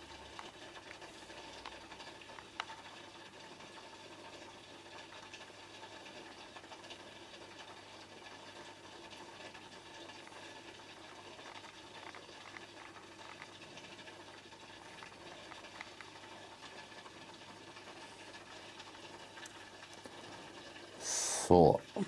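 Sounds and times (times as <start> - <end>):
aquarium filter bubbling: 0.0 - 22.0
small ticks: 0.1 - 20.8.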